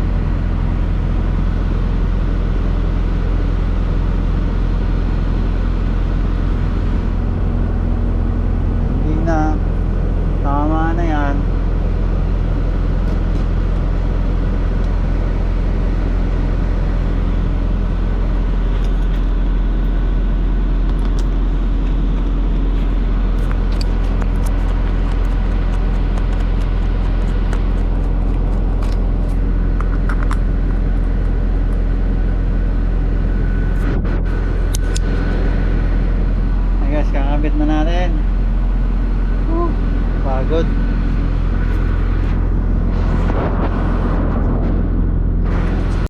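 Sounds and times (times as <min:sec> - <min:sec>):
bus diesel engine idling: 0:00.0 - 0:42.9.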